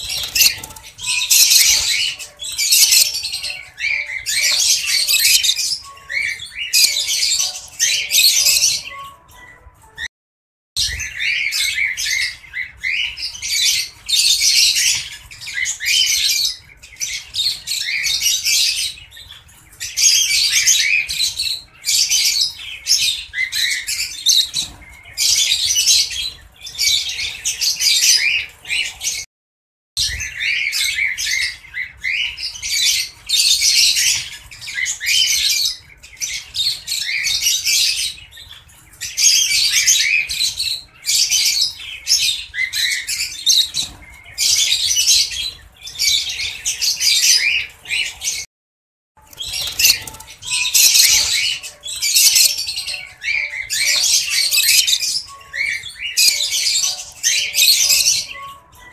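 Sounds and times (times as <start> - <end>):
lovebirds chirping and squawking: 0.0 - 10.1, 10.8 - 29.3, 30.0 - 48.5, 49.2 - 58.9.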